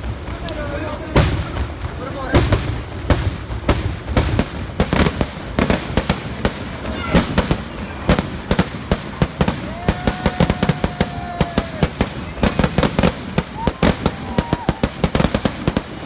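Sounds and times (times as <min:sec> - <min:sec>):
firecrackers banging: 0:00.0 - 0:16.0.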